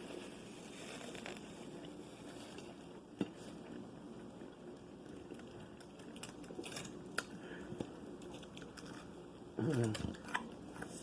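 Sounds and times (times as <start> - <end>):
chewing fried food: 0.0 - 10.9.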